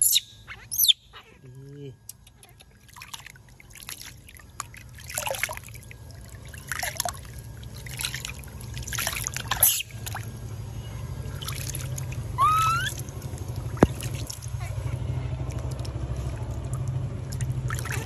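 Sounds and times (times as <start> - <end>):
steady low hum: 0.0 - 18.0
water splashing in basin: 2.4 - 18.0.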